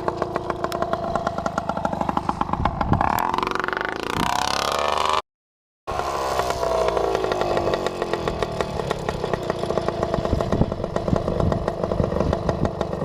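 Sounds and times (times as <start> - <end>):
two-stroke moped engine running: 0.0 - 5.2, 5.9 - 13.0.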